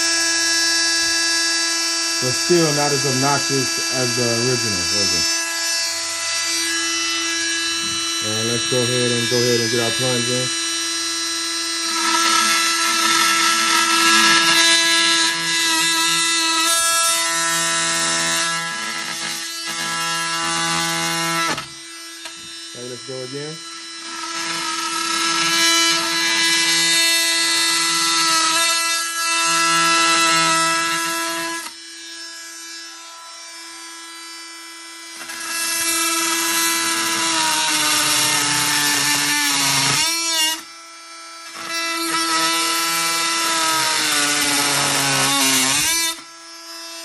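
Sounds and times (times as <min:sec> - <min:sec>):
oscillating multi-tool cutting wood: 0:00.0 - 0:47.0.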